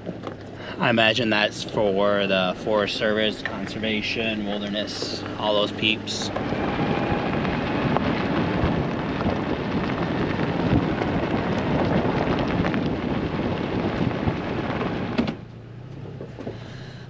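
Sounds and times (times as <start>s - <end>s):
car tyres rumbling on dirt road: 0.0s - 17.0s.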